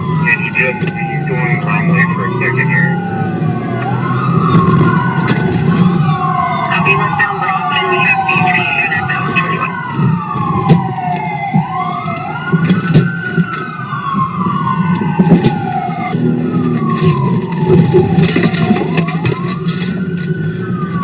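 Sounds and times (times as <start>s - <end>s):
car engine and road noise: 0.0s - 21.0s
police siren wailing: 0.0s - 21.0s.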